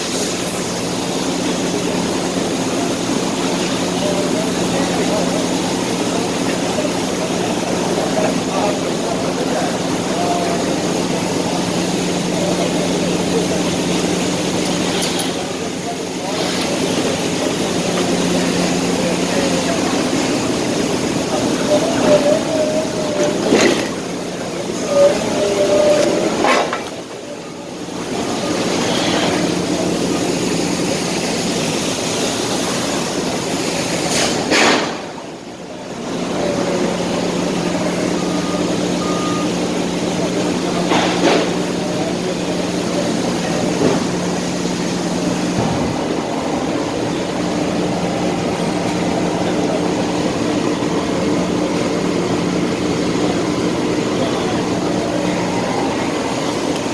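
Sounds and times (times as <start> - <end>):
heavy machinery humming: 0.0 - 56.9.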